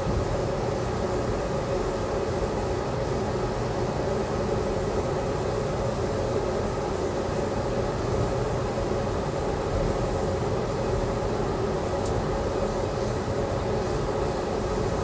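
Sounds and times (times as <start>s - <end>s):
train rumble and hum from inside: 0.0s - 15.0s.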